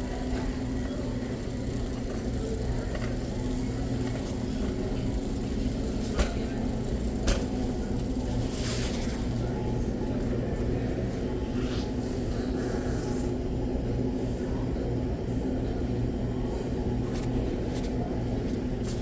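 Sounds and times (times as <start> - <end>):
indoor store ambience rumble: 0.0 - 19.0.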